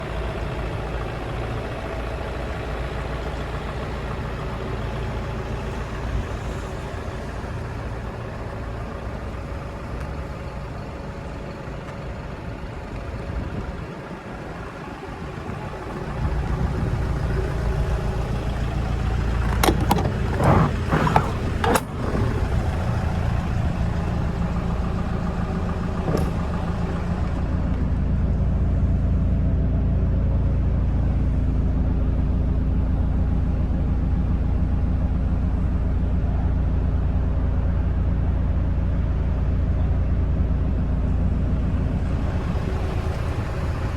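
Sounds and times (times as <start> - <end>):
diesel engine idling: 0.0 - 43.9.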